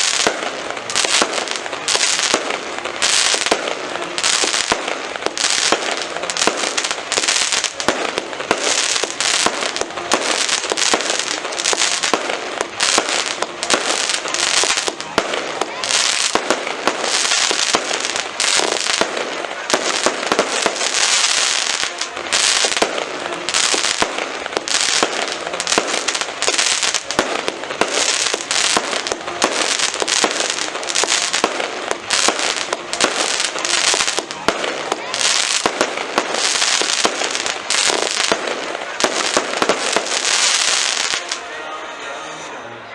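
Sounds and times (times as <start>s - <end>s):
fireworks bangs and pops: 0.0s - 41.4s.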